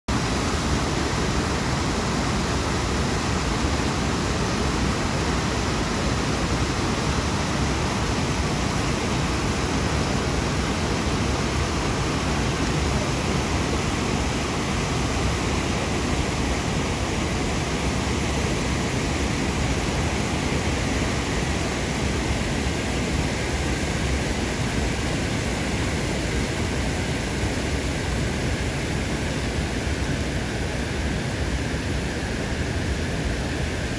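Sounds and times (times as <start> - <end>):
water rushing over falls: 0.1 - 33.9.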